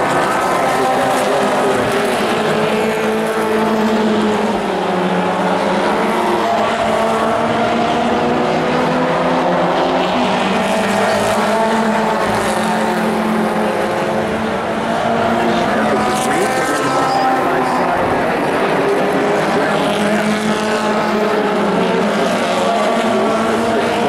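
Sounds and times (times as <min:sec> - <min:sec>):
race truck engines at speed: 0:00.0 - 0:24.0.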